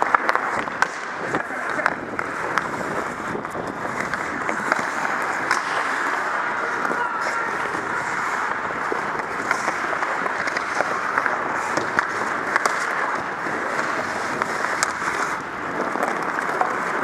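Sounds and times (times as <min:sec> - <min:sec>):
hockey sticks and puck clicking: 0:00.0 - 0:17.0
skate blades scraping on ice: 0:00.0 - 0:17.0.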